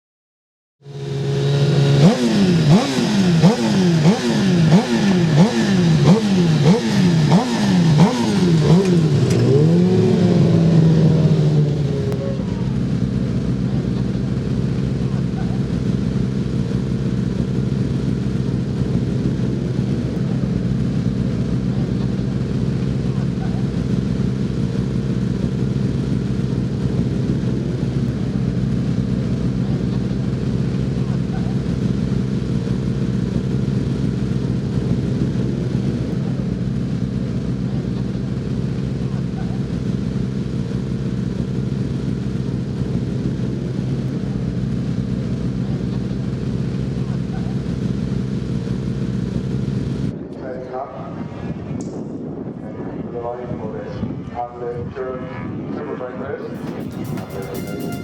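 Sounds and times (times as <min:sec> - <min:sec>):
motorcycle engine revving: 0:00.8 - 0:50.1, 0:56.4 - 0:58.0.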